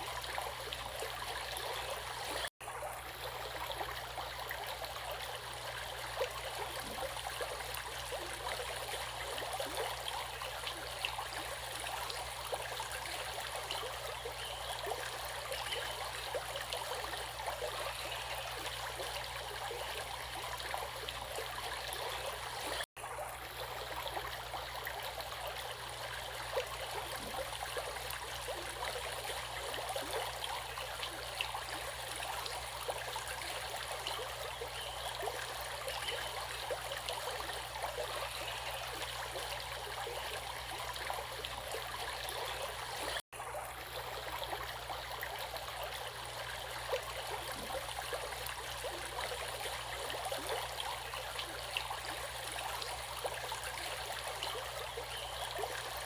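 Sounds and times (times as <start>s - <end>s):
stream water burbling: 0.0s - 56.0s.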